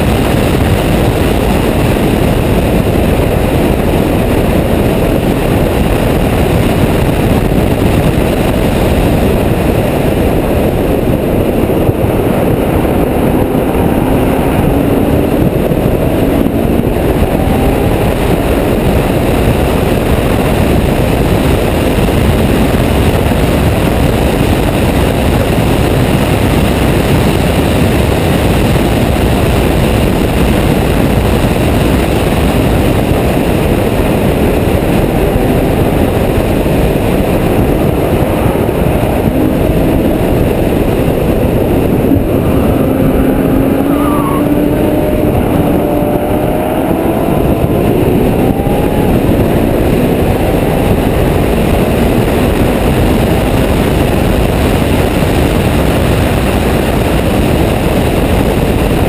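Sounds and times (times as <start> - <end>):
faint car engine: 0.0 - 59.0
wind buffeting on microphone: 0.0 - 59.0.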